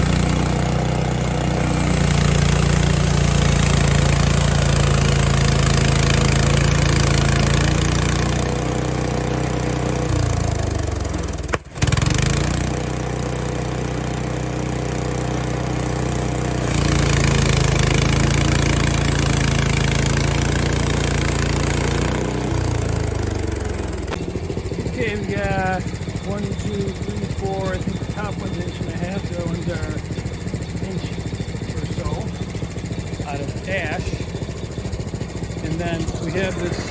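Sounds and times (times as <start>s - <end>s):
band saw cutting log: 0.0s - 36.9s
sawmill gas engine running: 0.0s - 36.9s.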